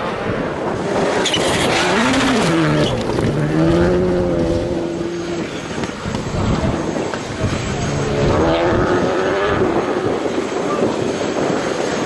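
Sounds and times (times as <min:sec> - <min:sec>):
rally car engine running hard: 0:01.6 - 0:12.0.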